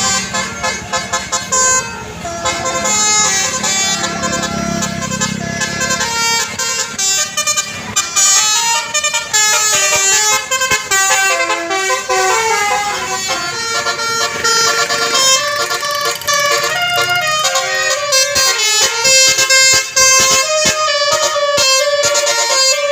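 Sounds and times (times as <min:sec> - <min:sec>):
bus multi-tone air horn melody: 0:00.0 - 0:22.9.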